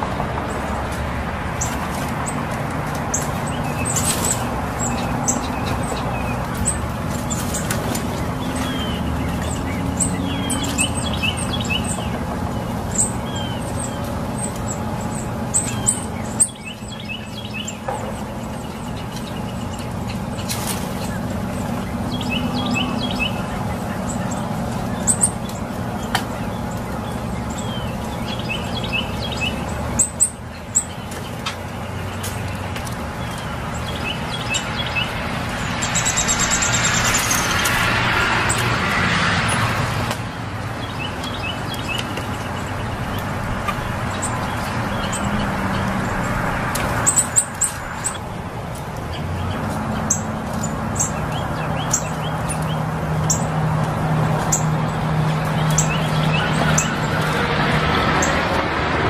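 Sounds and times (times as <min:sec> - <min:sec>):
bird chip notes and twitters: 0:03.0 - 0:38.8, 0:40.7 - 0:58.7.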